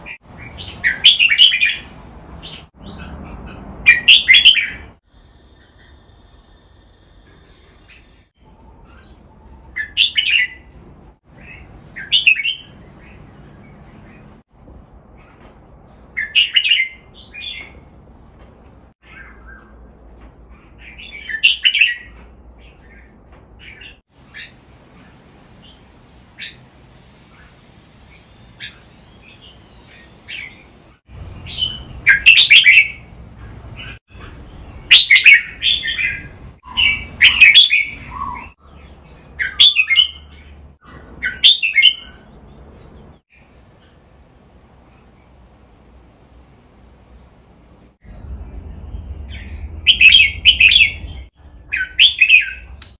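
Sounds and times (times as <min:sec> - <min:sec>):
birds chirping: 0:00.0 - 0:14.4, 0:19.0 - 0:52.9.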